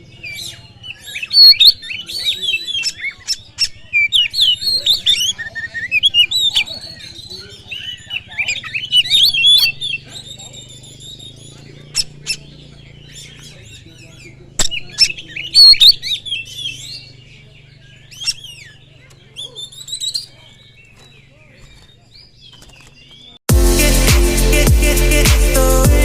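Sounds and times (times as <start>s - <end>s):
bird singing whistles and chattering: 0.0s - 21.3s.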